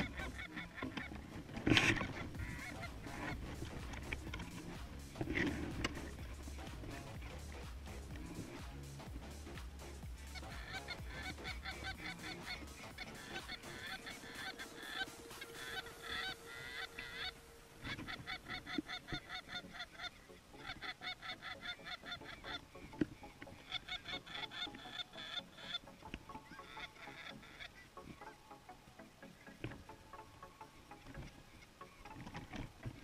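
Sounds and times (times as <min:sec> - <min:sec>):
geese honking: 0:00.0 - 0:33.0.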